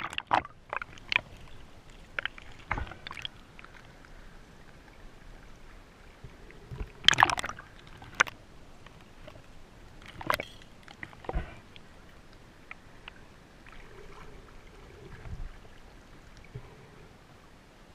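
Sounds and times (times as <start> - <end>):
water splashing and sloshing: 0.0 - 17.9.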